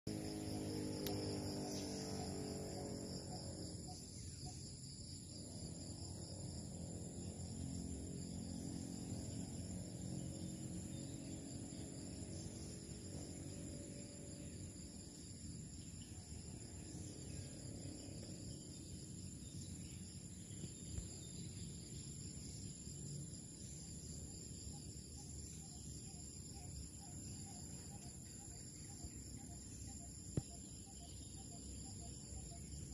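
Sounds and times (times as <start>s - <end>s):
high-pitched insect chorus: 0.1s - 32.9s.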